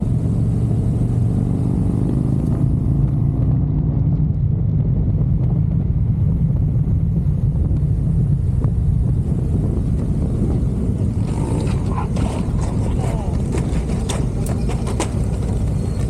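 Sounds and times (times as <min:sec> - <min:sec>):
motorcycle engine rumble: 0:00.0 - 0:16.0
wind rush: 0:00.0 - 0:16.0.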